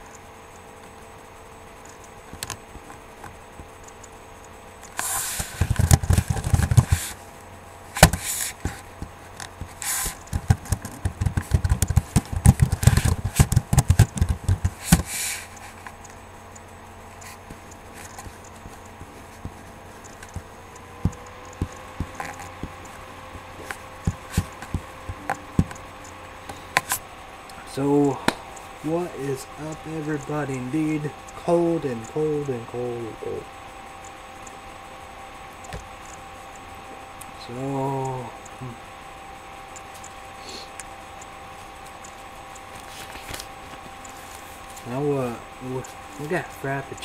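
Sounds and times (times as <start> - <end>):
scattered clicks: 0.0 - 34.6, 39.6 - 47.0
steady multi-tone hum: 0.0 - 47.0.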